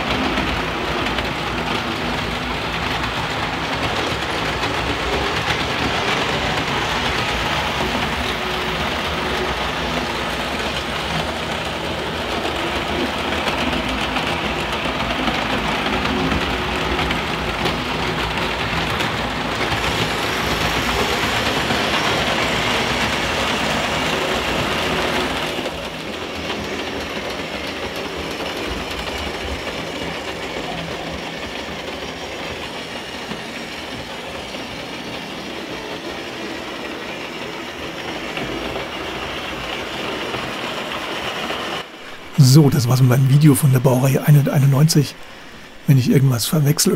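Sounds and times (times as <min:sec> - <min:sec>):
model train wheels clattering on rails: 0:00.0 - 0:42.0.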